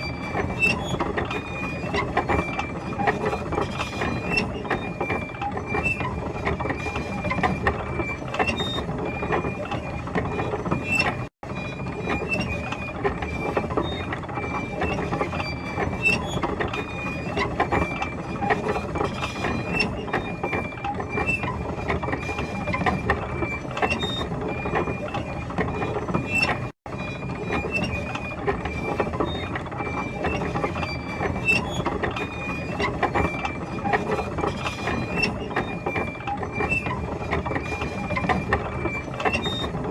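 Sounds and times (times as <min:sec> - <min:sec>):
track squeaks: 0:00.0 - 0:39.9.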